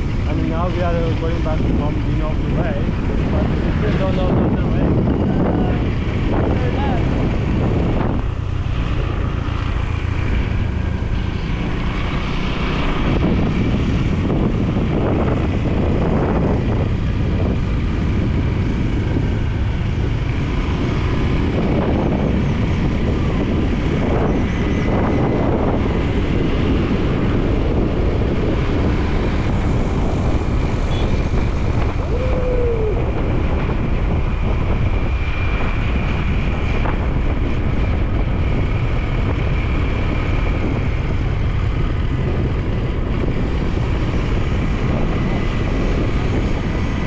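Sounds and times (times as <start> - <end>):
vehicle running noise: 0.0 - 47.0
wind rumbling on microphone: 0.0 - 47.0.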